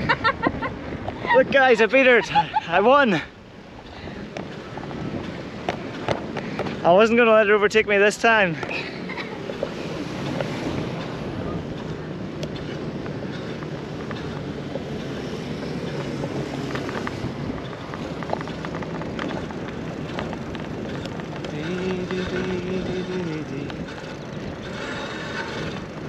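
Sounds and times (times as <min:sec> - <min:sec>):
wind buffeting the microphone: 0:00.0 - 0:26.0.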